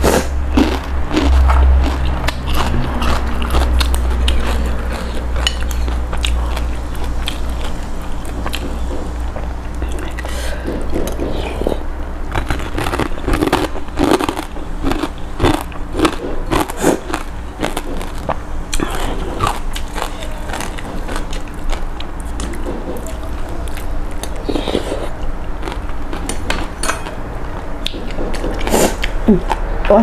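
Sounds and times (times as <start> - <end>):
person chewing and biting: 0.0 - 29.7.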